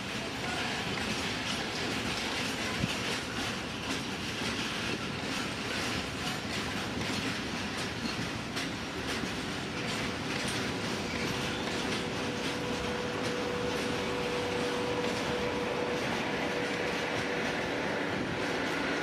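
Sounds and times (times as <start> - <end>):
train rumble: 0.0 - 19.0
train wheels clicking over rail joints: 0.0 - 19.0.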